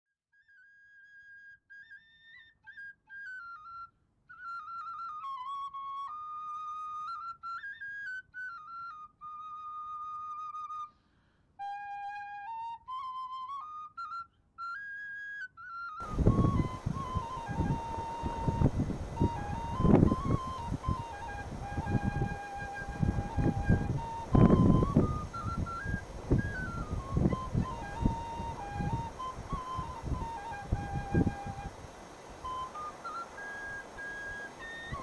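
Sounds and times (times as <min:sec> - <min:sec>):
solo flute melody: 0:00.3 - 0:35.0.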